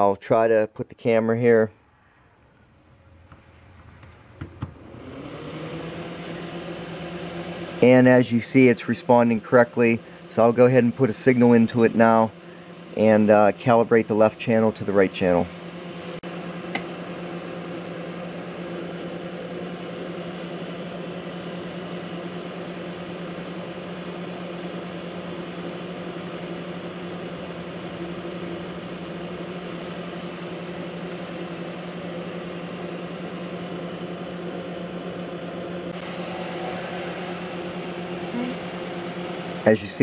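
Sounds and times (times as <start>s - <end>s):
machine hum with rushing air: 0.0s - 40.0s.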